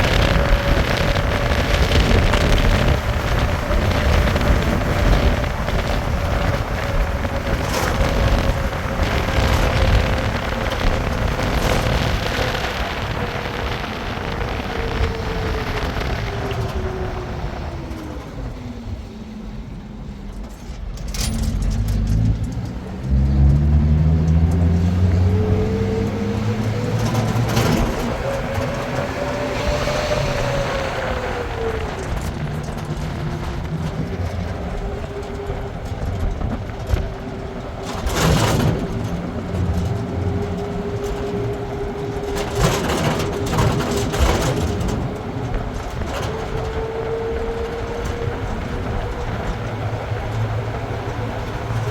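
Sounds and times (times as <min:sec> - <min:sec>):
deep engine speeding up: 0:00.0 - 0:20.3, 0:21.2 - 0:51.9
constant hum: 0:00.0 - 0:51.9
vehicle engine slowing: 0:00.0 - 0:51.9.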